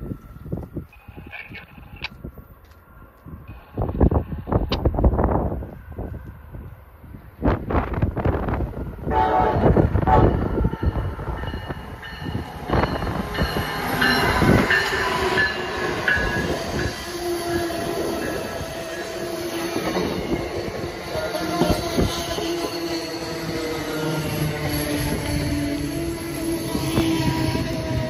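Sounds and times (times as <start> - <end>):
loud rush of train noise: 0.0 - 28.0.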